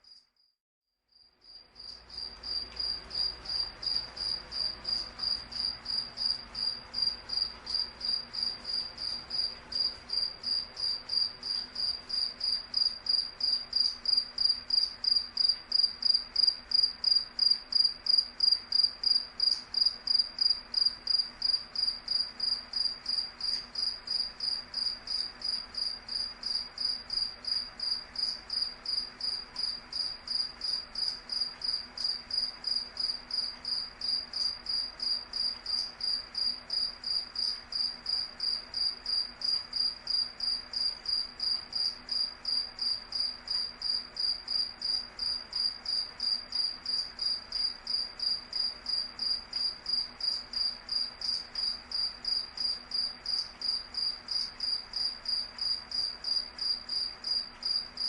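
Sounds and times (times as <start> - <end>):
cricket chirping: 1.1 - 58.0.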